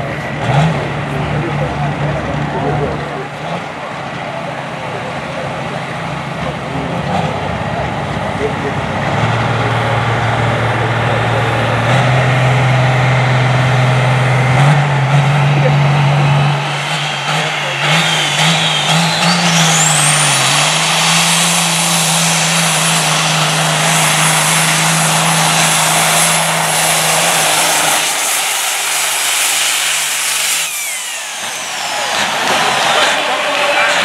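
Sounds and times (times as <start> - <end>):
diesel truck engine under load: 0.0 - 34.0.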